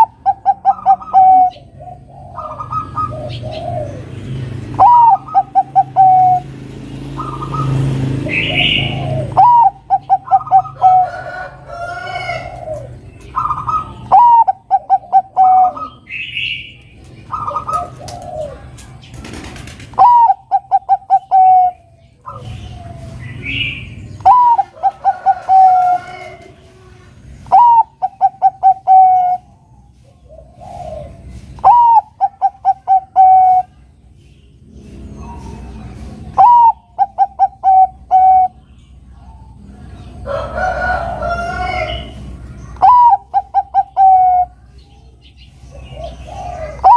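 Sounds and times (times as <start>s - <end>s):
dove cooing: 0.0s - 16.6s, 17.2s - 33.9s, 35.2s - 38.6s, 39.2s - 44.7s, 45.7s - 46.9s
birds chirping: 0.0s - 46.9s.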